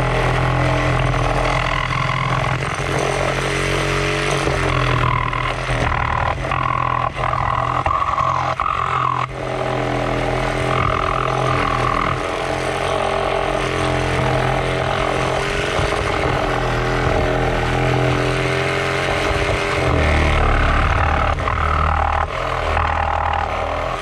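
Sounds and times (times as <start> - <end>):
reciprocating saw cutting wood: 0.0 - 24.0.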